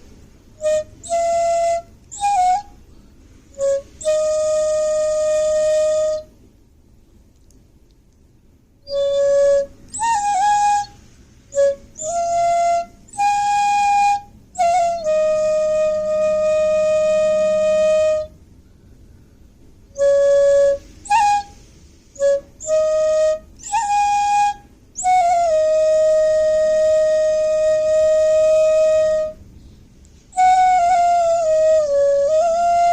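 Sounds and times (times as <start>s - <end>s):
slow wind instrument solo: 0.0s - 6.5s, 8.8s - 32.9s.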